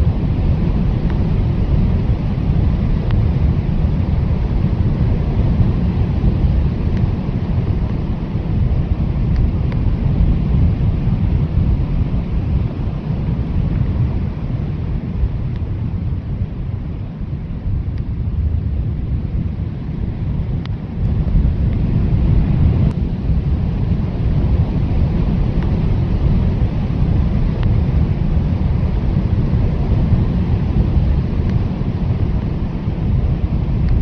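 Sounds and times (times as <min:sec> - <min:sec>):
blizzard wind blowing: 0:00.0 - 0:34.0.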